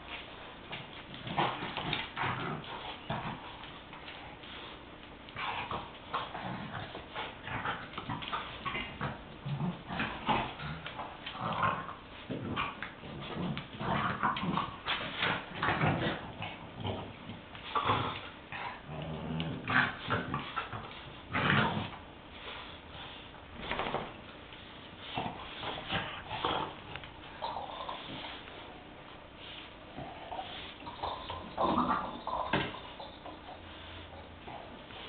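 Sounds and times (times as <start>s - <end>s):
dogs play-fighting vocalizing: 0.0s - 35.0s.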